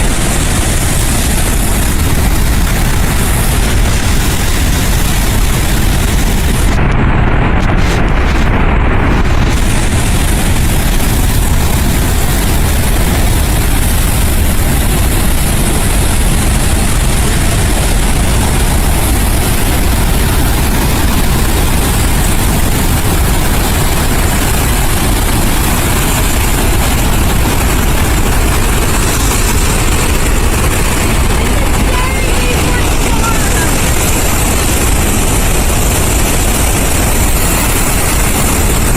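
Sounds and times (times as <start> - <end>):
water rushing from dam outlet: 0.0 - 38.9.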